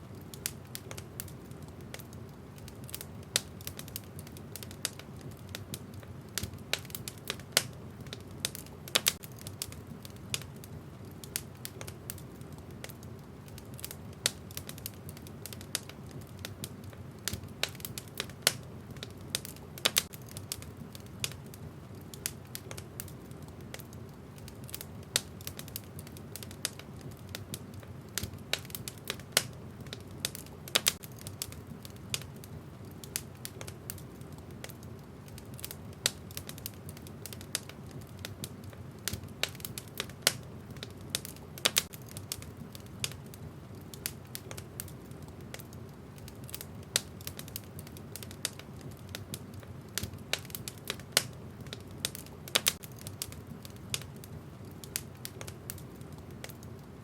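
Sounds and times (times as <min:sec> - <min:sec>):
low rumble of flames: 0:00.0 - 0:57.0
wood fire crackling: 0:00.0 - 0:57.0
sharp pops from burning logs: 0:00.1 - 0:57.0.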